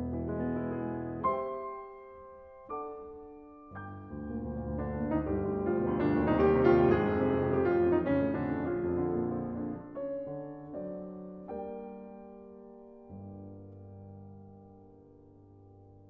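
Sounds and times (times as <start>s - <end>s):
solo classical piano: 0.0s - 16.0s.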